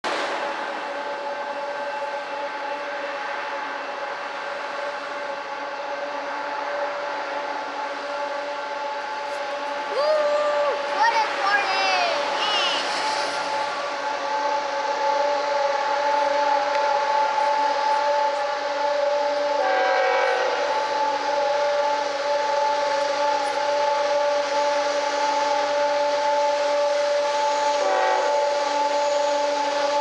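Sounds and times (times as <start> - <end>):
diesel locomotives: 0.0 - 30.0.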